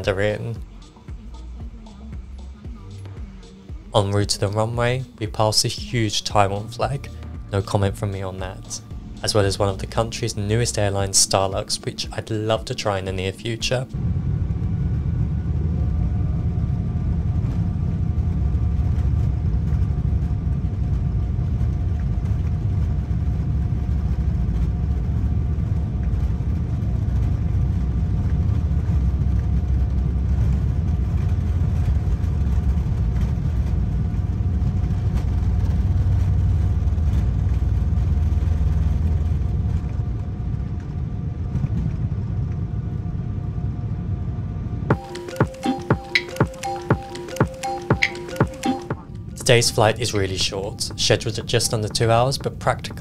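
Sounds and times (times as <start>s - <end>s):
jet engines rumbling in cabin: 0.0s - 53.0s.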